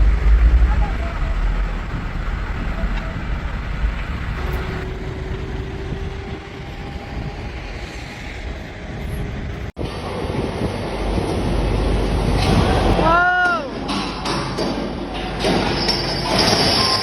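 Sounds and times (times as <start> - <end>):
heavy diesel machinery rumbling: 0.0 - 17.0.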